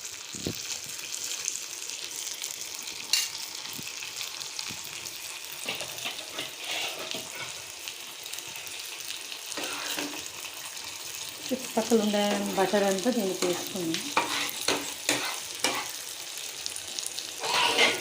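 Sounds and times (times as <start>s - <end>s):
fish sizzling in a pan: 0.0s - 18.0s.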